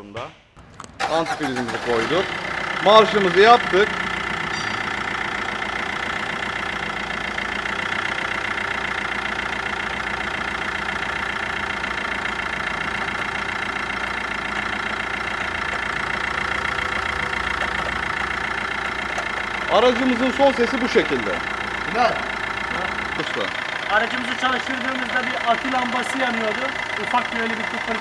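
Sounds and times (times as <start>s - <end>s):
alternator ticking: 0.6s - 28.0s
diesel engine idling: 0.6s - 28.0s.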